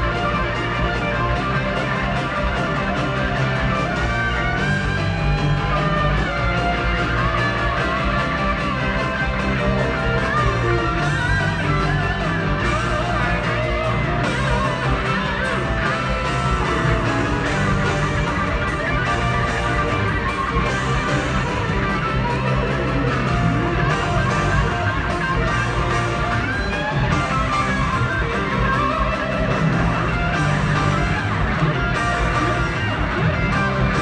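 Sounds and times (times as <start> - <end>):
bass and drums: 0.0 - 34.0
electric guitar solo: 0.0 - 34.0.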